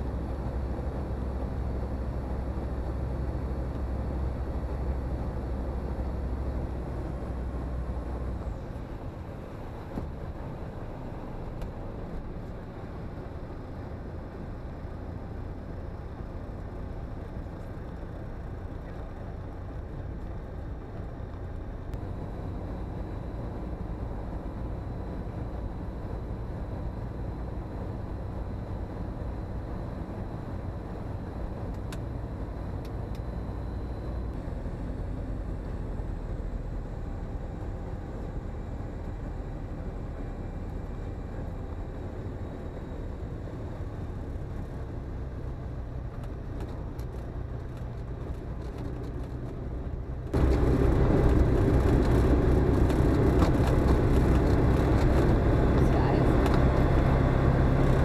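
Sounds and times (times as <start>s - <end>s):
propeller engine drone: 0.0s - 58.0s.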